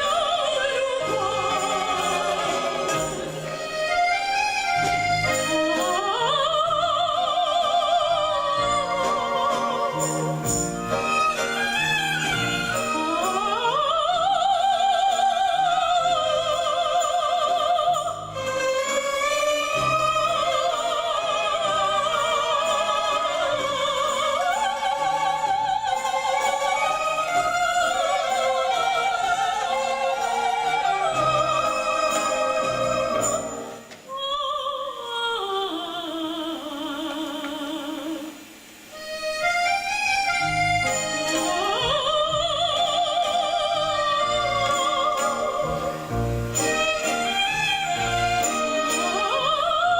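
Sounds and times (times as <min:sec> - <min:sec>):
soft accompaniment: 0:00.0 - 0:49.9
soprano singing opera: 0:00.0 - 0:49.9.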